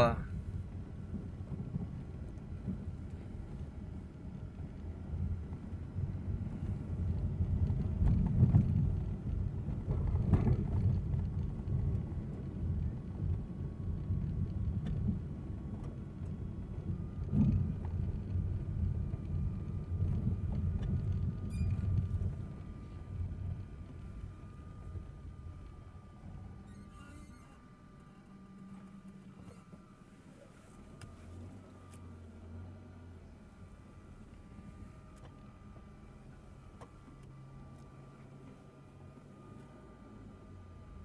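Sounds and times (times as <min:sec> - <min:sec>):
car driving rumble: 0:00.0 - 0:41.0.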